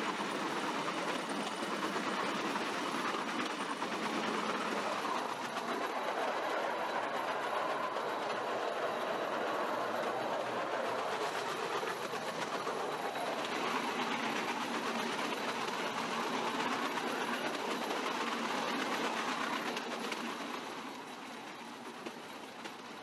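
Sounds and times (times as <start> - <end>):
wheels on rails: 0.0 - 23.0.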